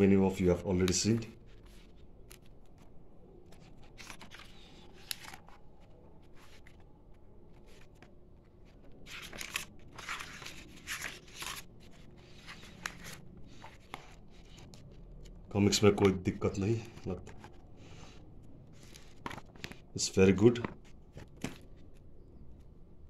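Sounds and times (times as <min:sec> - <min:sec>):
paper rustling and crackling: 0:00.8 - 0:15.4, 0:16.8 - 0:22.0.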